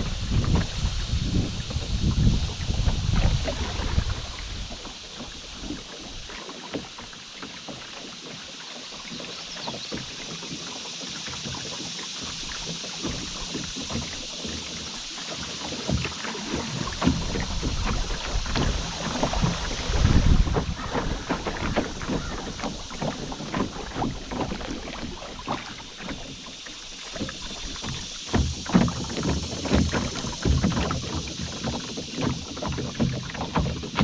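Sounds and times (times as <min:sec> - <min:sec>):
hiss of moving water: 0:00.0 - 0:34.0
water splashing against hull: 0:00.0 - 0:34.0.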